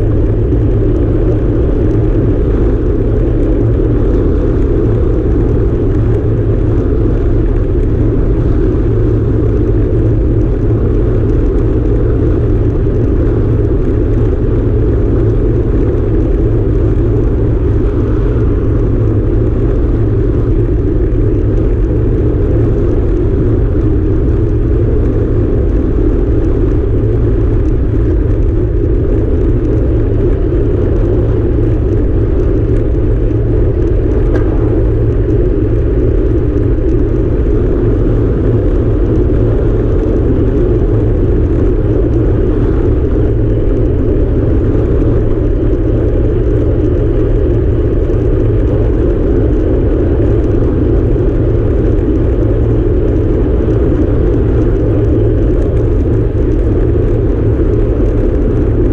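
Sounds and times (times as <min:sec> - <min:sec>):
road noise: 0:00.0 - 0:58.9
wind buffeting microphone: 0:00.0 - 0:58.9.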